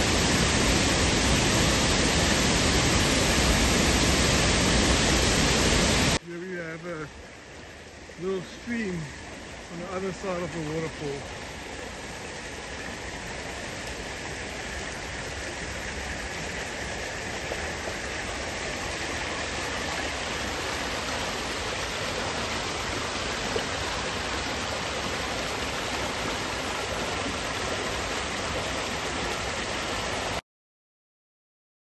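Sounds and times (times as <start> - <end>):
stream rushing over stones: 0.0 - 30.4.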